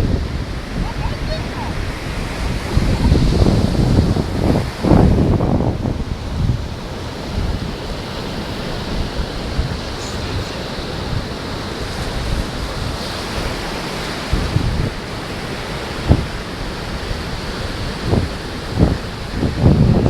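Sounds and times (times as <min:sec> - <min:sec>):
ocean surf washing on beach: 0:00.0 - 0:20.0
wind buffeting microphone: 0:00.0 - 0:20.0.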